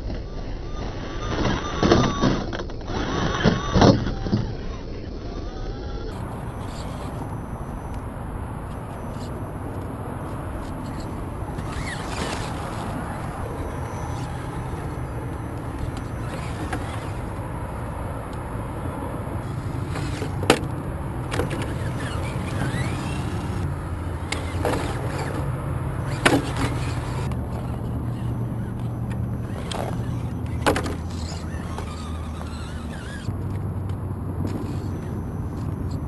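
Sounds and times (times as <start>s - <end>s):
electric motor humming: 0.6s - 36.0s.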